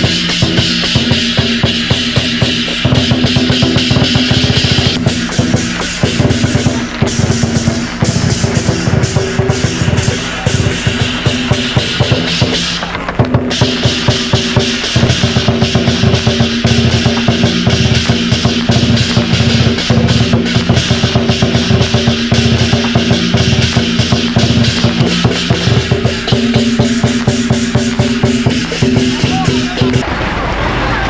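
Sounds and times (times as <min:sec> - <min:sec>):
hand cymbals crashing: 0:00.0 - 0:30.0
big drums beating fast: 0:00.0 - 0:30.1.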